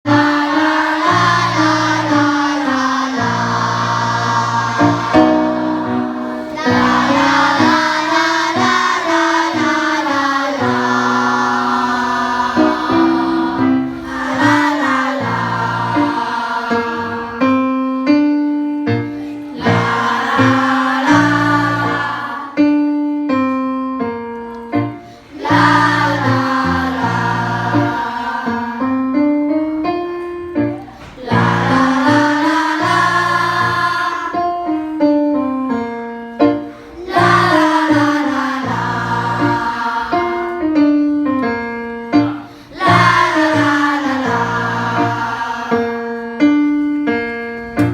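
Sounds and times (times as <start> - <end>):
piano notes: 0.0 - 47.9
group singing vocal warm-ups: 0.1 - 17.8, 18.9 - 22.8, 25.0 - 29.4, 30.8 - 35.5, 36.6 - 46.7.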